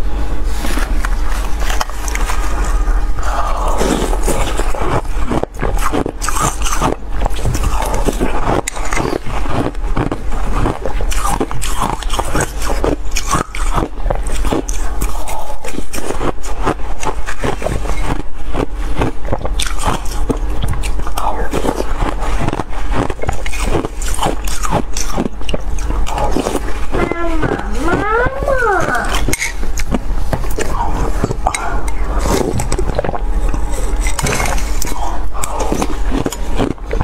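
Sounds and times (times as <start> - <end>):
chewing shaved ice: 0.5 - 37.0.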